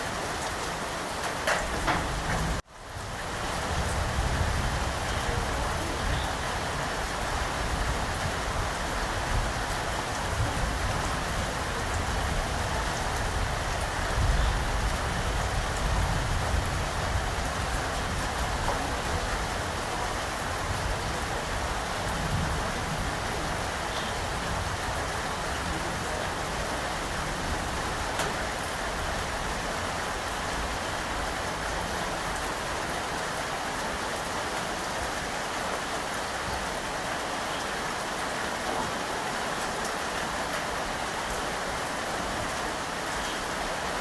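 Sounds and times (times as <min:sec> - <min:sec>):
dense rainfall: 0:00.0 - 0:44.0.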